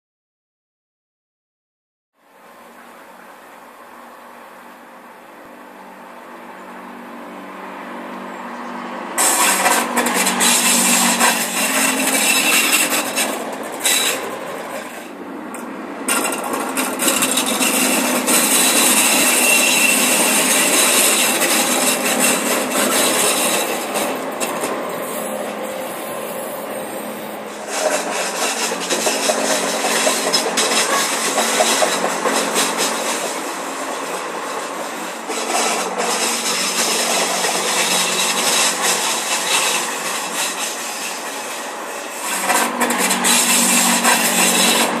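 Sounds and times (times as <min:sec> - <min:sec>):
railcar engine: 0:02.2 - 0:45.0
wheel on rail squealing: 0:02.7 - 0:45.0.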